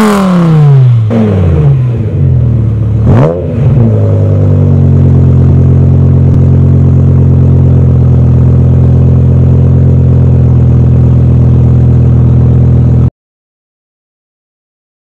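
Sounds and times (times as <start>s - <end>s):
car engine idling: 0.3s - 13.1s.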